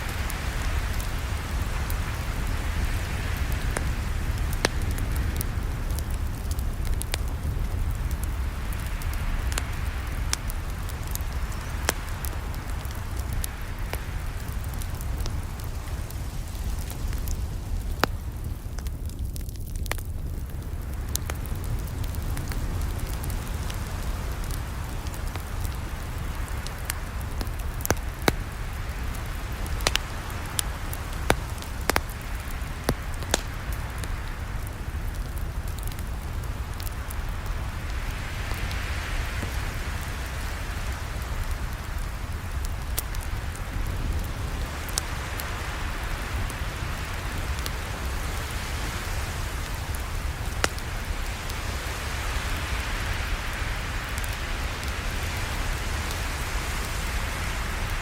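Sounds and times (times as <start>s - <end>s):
campfire rumble and hiss: 0.0s - 58.0s
wood crackling and popping: 0.0s - 58.0s.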